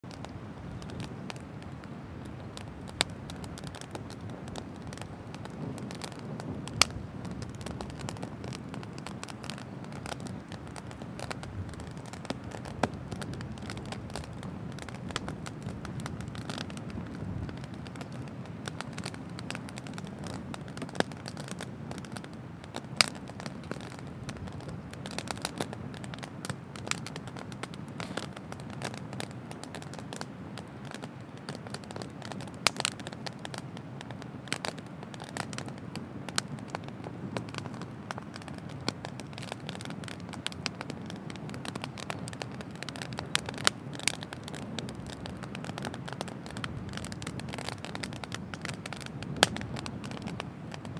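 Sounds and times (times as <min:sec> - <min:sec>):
bonfire crackling: 0:00.0 - 0:50.9
low rush of fire noise: 0:00.0 - 0:50.9
sharp pops from burning logs: 0:00.1 - 0:50.9.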